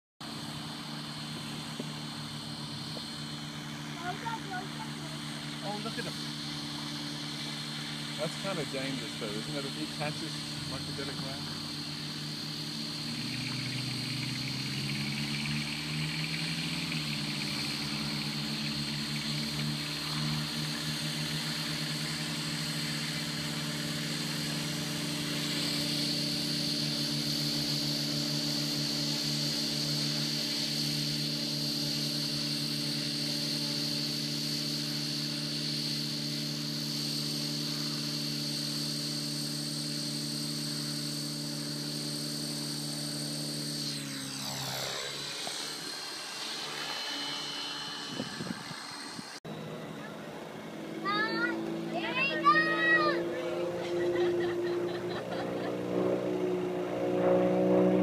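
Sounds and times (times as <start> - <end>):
high whine: 0.2 - 58.0
model helicopter rotor hum: 0.2 - 58.0.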